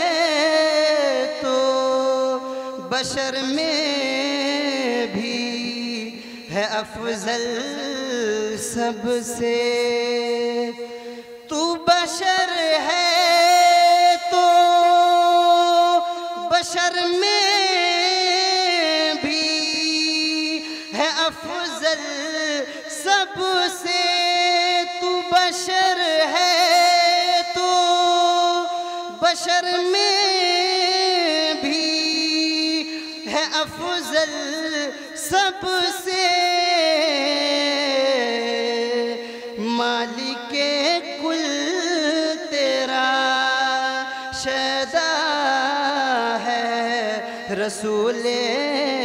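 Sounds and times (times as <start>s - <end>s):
man singing: 0.0s - 49.0s.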